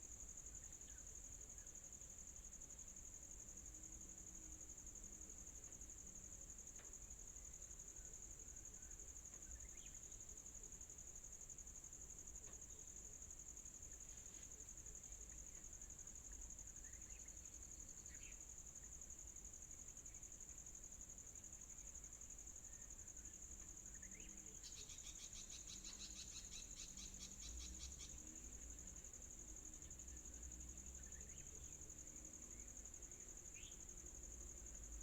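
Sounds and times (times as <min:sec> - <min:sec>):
crickets chirring: 0:00.0 - 0:35.0.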